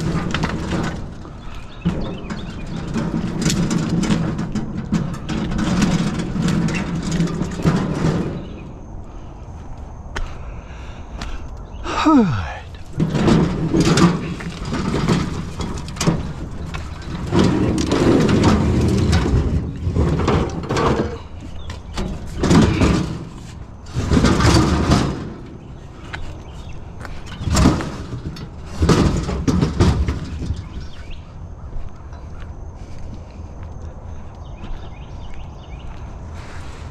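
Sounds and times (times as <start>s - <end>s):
junk clattering and scraping: 0.0s - 36.9s.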